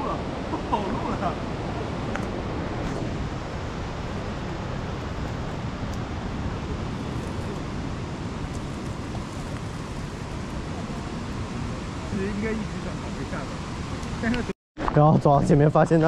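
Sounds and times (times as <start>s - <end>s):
wind rumbling on microphone: 0.0s - 15.5s.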